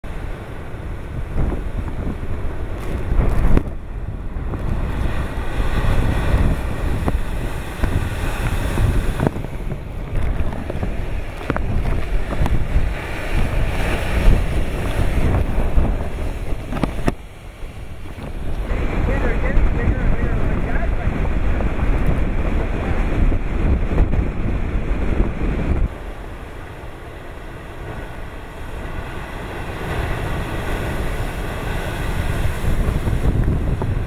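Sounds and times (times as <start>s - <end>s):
heavy surf crashing on rocks: 0.0s - 34.0s
wind buffeting microphone: 0.0s - 34.0s.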